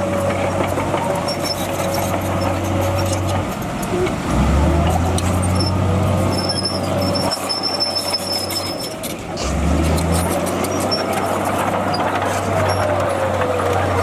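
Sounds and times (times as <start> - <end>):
diesel machinery engine drone: 0.0 - 14.0.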